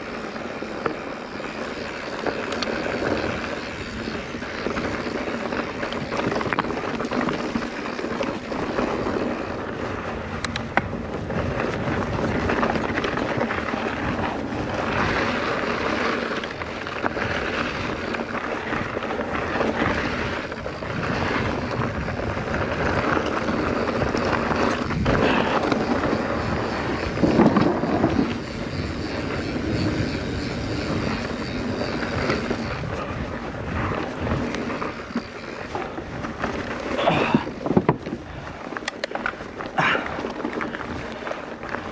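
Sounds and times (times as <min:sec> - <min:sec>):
bike tyres rolling on dirt: 0:00.0 - 0:41.9
wind rushing over microphone: 0:00.0 - 0:41.9.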